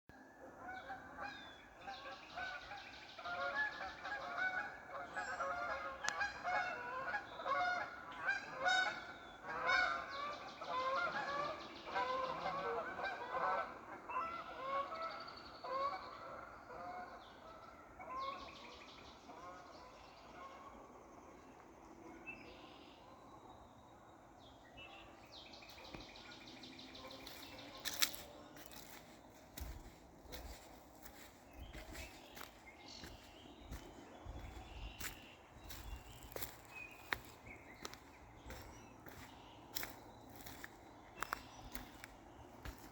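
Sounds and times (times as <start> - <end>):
geese honking: 0.6 - 18.6, 25.0 - 42.9.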